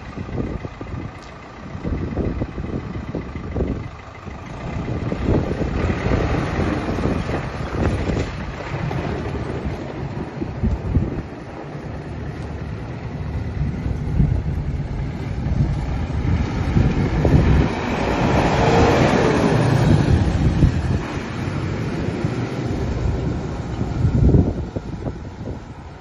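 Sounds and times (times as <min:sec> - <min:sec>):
tractor diesel engine passing: 0:00.0 - 0:26.0.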